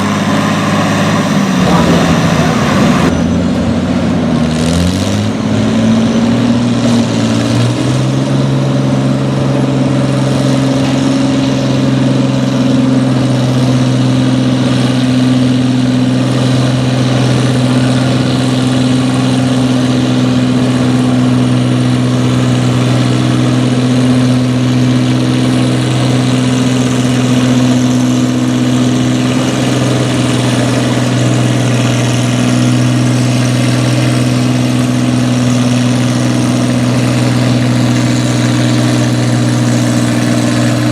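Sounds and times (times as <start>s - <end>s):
tractor engine revving: 0.0s - 40.9s.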